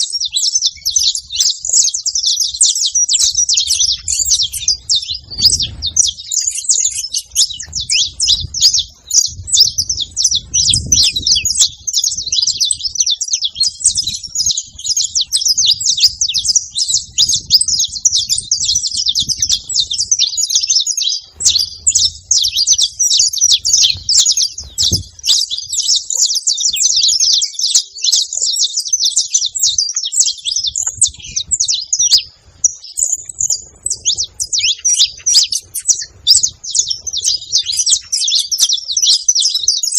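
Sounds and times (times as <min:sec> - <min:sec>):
finches singing and chirping: 0:00.0 - 0:39.9.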